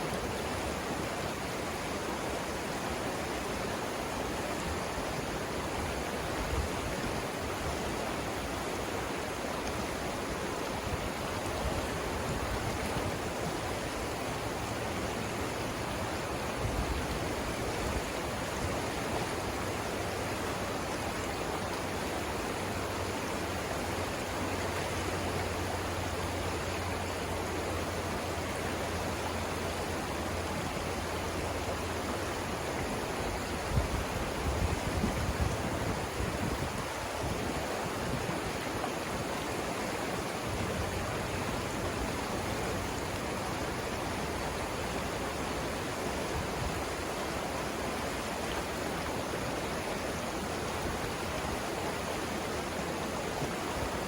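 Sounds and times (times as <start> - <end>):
water rushing over rapids: 0.0 - 54.0.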